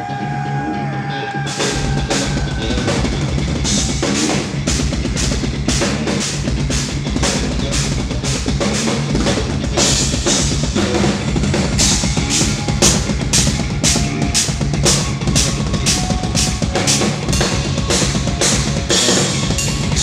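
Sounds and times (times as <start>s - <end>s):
low sustained guitar chords: 0.0s - 20.0s
drum kit playing: 1.5s - 20.0s.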